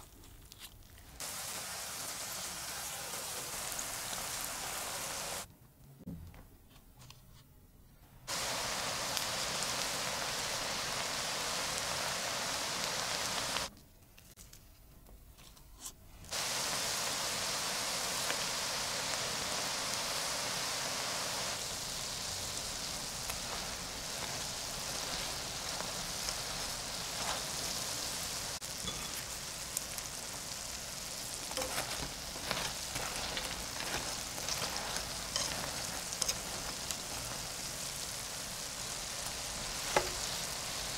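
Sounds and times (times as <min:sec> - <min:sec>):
batter sizzling in hot oil: 0:01.2 - 0:05.5, 0:08.3 - 0:13.7, 0:16.3 - 0:40.9.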